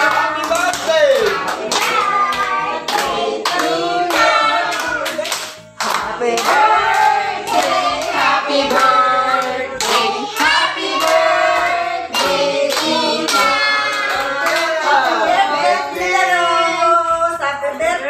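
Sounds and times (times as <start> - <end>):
hands clapping: 0.0 - 15.4
group singing: 0.0 - 17.2.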